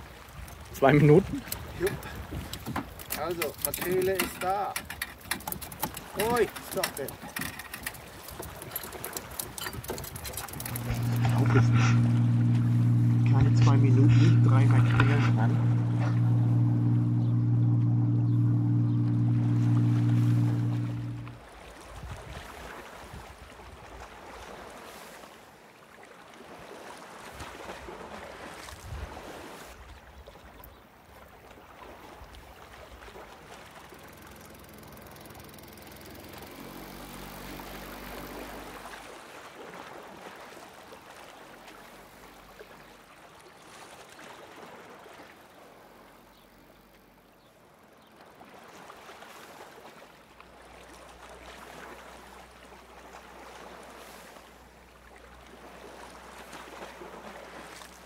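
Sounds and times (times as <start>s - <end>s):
water lapping around a canoe: 0.0s - 58.0s.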